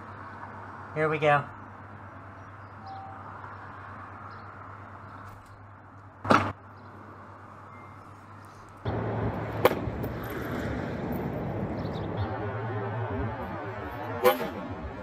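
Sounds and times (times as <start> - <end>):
steady outdoor hum: 0.0 - 15.0.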